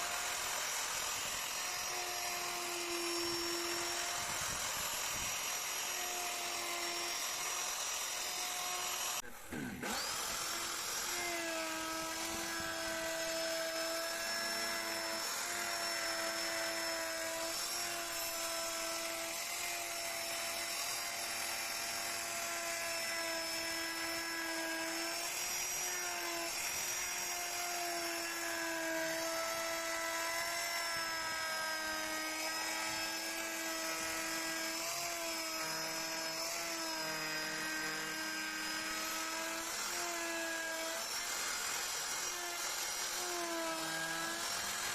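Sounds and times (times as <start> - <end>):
electric carving tool whining: 0.0 - 44.9.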